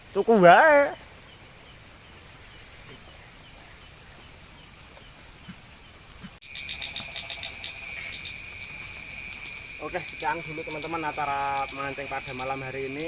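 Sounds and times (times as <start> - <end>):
crickets chirring: 0.0 - 13.0
frogs: 0.0 - 13.0
pulsing insect chirp: 0.0 - 13.0.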